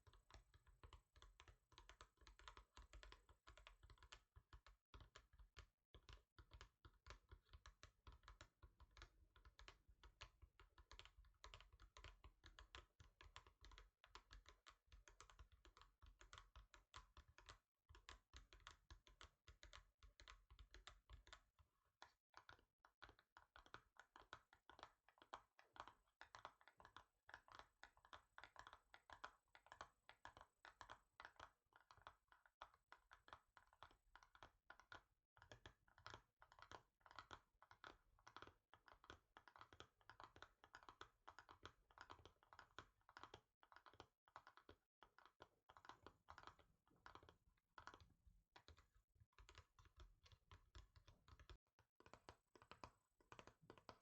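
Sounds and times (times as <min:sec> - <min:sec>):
finger tapping on hard surface: 0:00.0 - 0:54.0.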